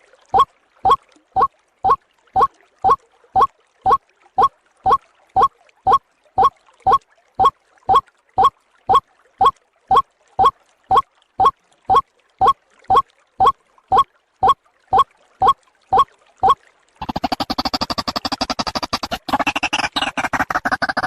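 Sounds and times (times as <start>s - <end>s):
waterhen call repeated: 0.3s - 21.0s.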